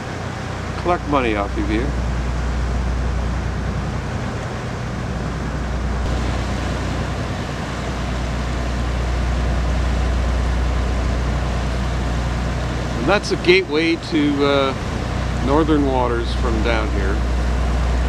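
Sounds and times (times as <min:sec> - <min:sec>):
motor boat engines droning: 0:00.0 - 0:18.0.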